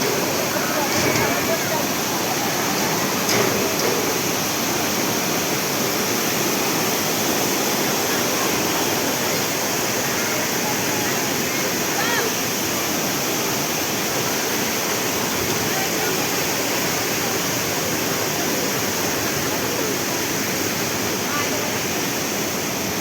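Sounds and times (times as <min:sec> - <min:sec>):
river and waterfall roaring: 0:00.0 - 0:23.0.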